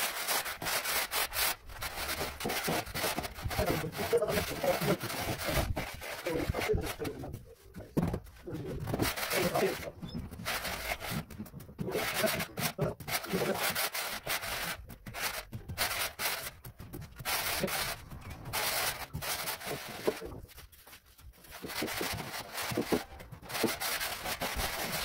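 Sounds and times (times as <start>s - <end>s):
screed board scraping cement: 0.0s - 25.0s.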